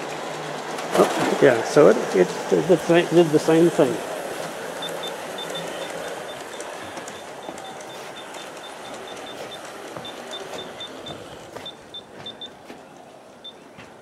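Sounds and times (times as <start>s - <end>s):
model train motors whirring: 0.0s - 14.0s
wheels rolling on track: 0.0s - 14.0s.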